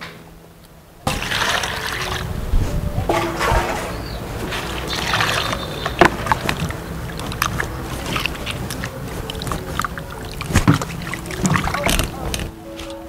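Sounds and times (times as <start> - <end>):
water splashing in a bowl: 1.1 - 2.3, 3.1 - 12.5.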